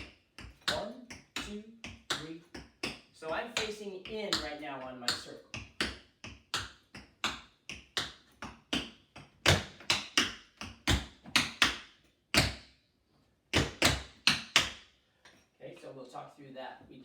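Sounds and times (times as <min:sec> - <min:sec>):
tap shoes on hard floor: 0:00.0 - 0:12.7, 0:13.5 - 0:14.9.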